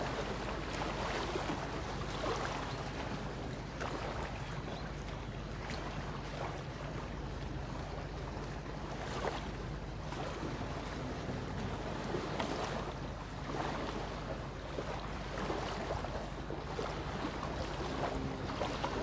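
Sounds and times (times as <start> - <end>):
river waves lapping on boulders: 0.0 - 19.0.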